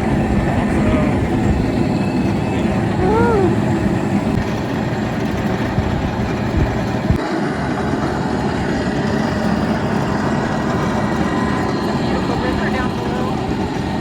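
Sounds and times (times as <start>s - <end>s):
cable car rumbling: 0.0s - 14.0s.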